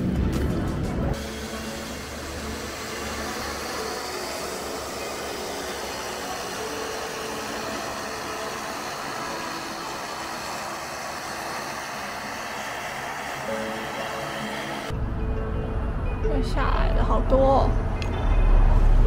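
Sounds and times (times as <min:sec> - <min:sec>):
outdoor noise rush: 0:00.0 - 0:16.0
distant engine drone: 0:00.8 - 0:19.0.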